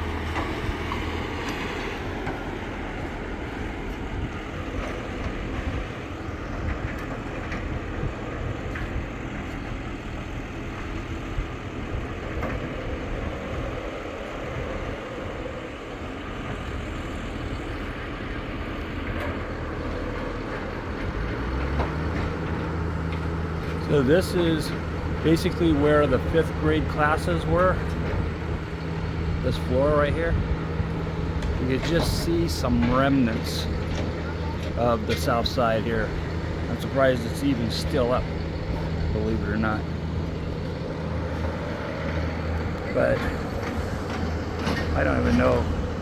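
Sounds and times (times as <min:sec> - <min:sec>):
excavator engine hum: 0:00.0 - 0:46.0.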